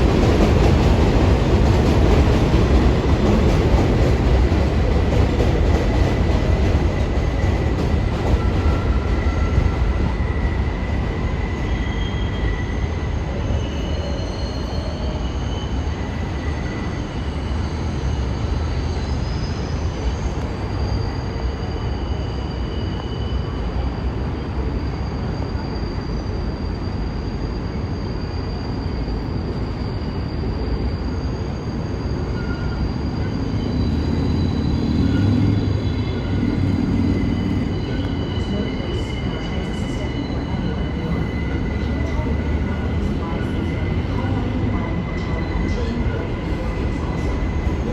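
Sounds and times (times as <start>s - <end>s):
subway train rumble: 0.0s - 47.9s
high wheel squeals: 6.8s - 47.9s.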